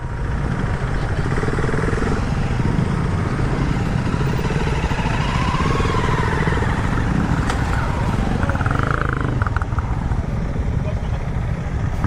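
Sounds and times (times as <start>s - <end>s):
motorcycle engine pulsing rumble: 0.0s - 12.0s.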